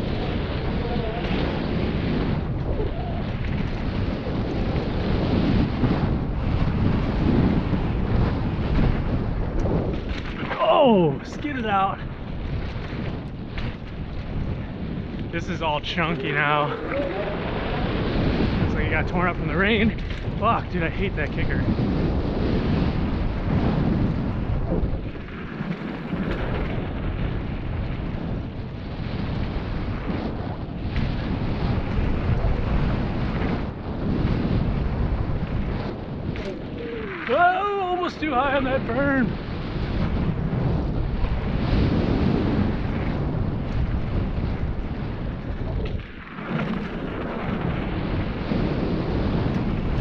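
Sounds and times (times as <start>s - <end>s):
bike rattling over rough trail: 0.0s - 50.0s
wind rushing over microphone: 0.0s - 50.0s.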